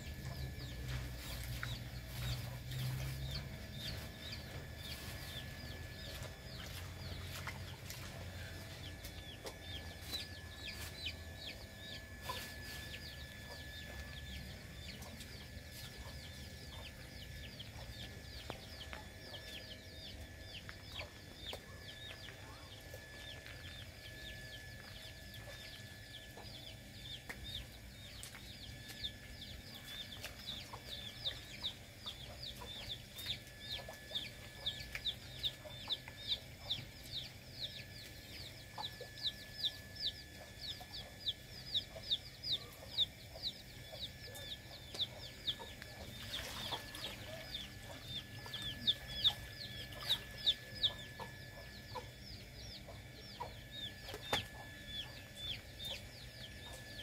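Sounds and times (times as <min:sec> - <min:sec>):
chickens clucking: 0:00.0 - 0:19.6, 0:20.6 - 0:57.0
chickens cheeping: 0:00.0 - 0:57.0.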